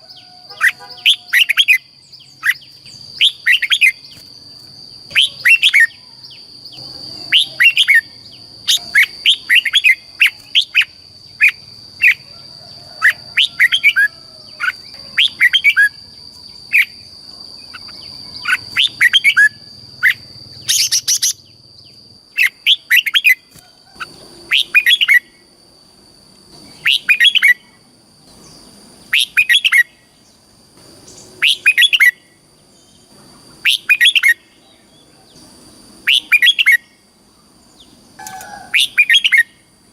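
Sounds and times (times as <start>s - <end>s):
bird warbling song: 0.0s - 12.3s, 12.9s - 25.4s, 26.5s - 39.6s.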